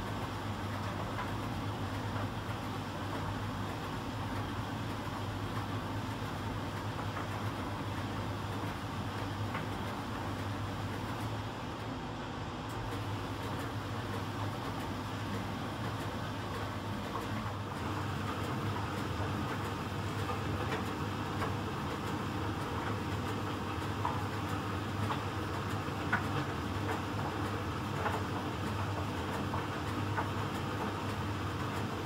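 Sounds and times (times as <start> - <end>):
tumble dryer drum tumbling: 0.0 - 32.0.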